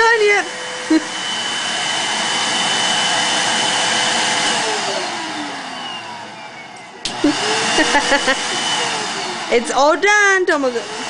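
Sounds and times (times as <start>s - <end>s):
vacuum cleaner motor winding down: 0.0s - 11.0s.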